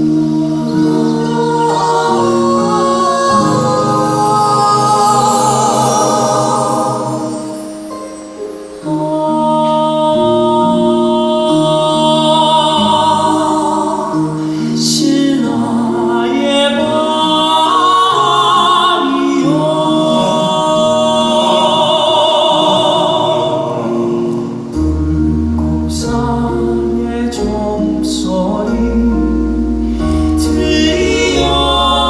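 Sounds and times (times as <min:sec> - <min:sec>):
male vocal quartet singing: 0:00.0 - 0:32.0.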